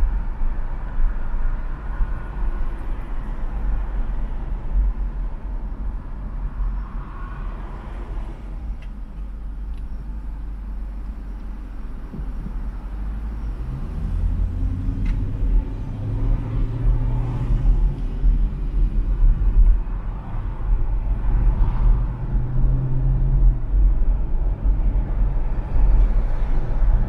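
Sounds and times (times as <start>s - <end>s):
car engine drone: 0.0s - 27.0s
car road rumble: 0.0s - 27.0s.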